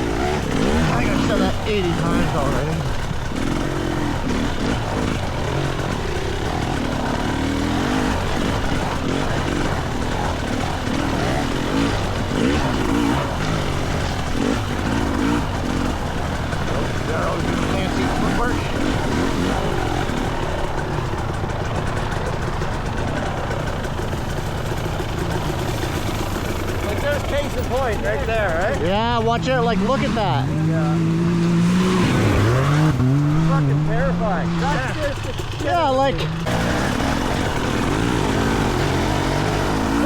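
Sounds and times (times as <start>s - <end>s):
two-stroke dirt bike engine revving: 0.0s - 40.0s.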